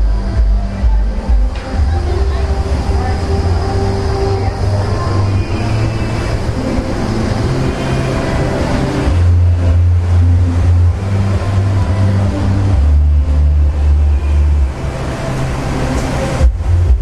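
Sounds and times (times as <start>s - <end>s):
loud music with deep bass: 0.0s - 17.0s
busy background hum: 0.1s - 16.6s.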